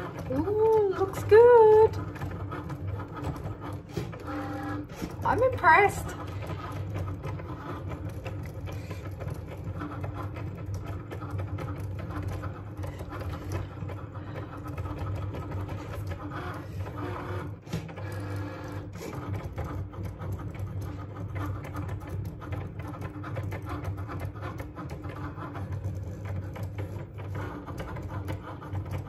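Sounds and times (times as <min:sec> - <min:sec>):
cutting machine motors whirring: 0:00.0 - 0:29.0.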